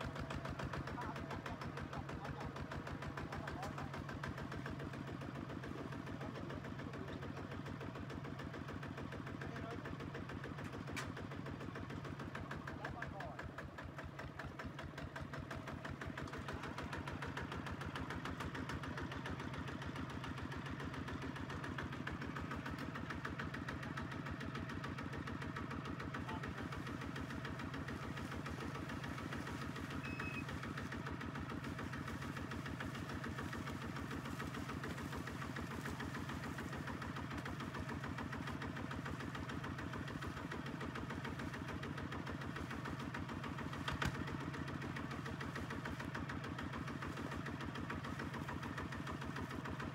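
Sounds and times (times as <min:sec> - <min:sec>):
diesel engine chugging: 0:00.0 - 0:49.9.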